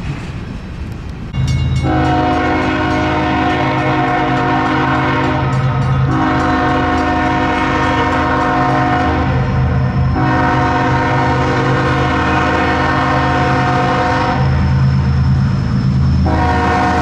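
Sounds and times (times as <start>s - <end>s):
locomotive engine drone: 0.0s - 17.0s
locomotive air horn: 1.8s - 14.8s, 16.2s - 17.0s.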